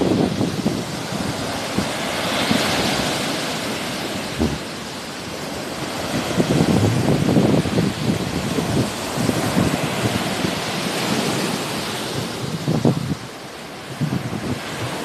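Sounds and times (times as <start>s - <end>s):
sea waves washing ashore: 0.0s - 15.0s
wind buffeting microphone: 0.0s - 15.0s.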